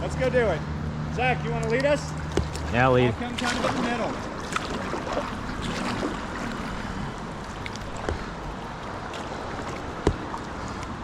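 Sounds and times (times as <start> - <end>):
river current rushing: 0.0 - 11.0
paddle strokes in water: 1.6 - 11.0.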